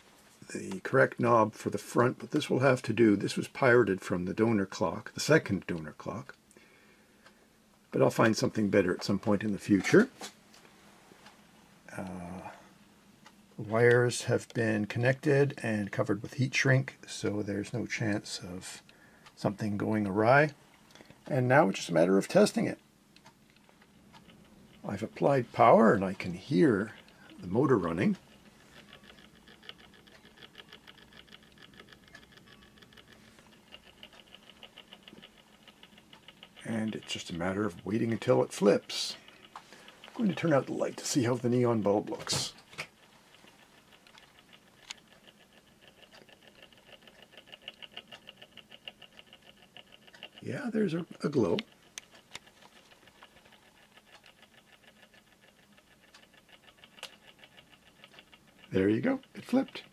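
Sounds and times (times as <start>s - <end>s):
clock motor ticking: 0.7s - 10.3s, 11.2s - 59.9s.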